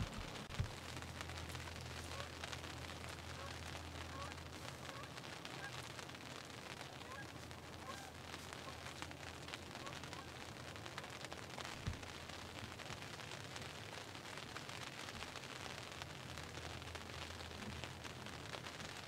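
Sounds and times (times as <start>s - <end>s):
rain pattering on fabric: 0.0s - 19.0s.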